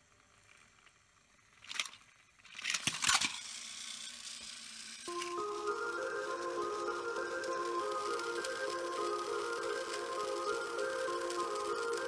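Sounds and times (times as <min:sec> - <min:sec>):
toy train motor whir: 0:00.0 - 0:12.0
toy trains clicking and rattling: 0:00.0 - 0:12.0.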